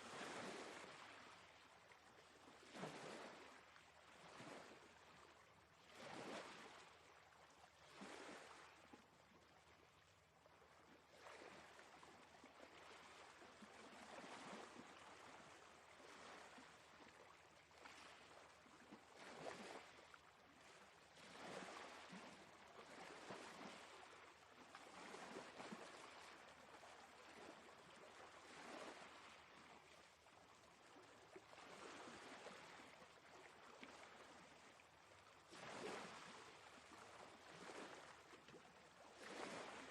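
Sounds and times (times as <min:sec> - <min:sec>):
faint sea waves: 0:00.0 - 0:39.9.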